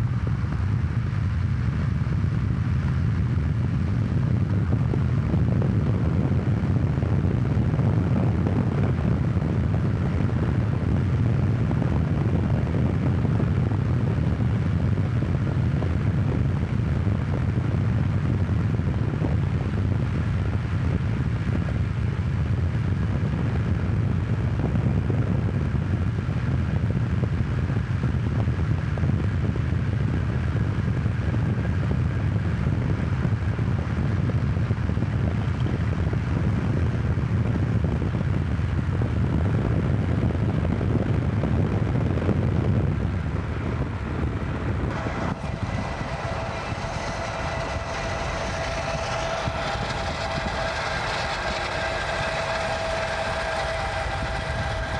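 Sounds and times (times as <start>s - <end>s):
car road and wind noise: 0.0s - 54.9s.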